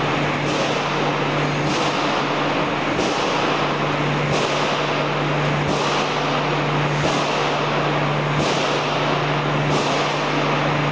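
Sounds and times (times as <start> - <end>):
loud machine noise: 0.0 - 10.9.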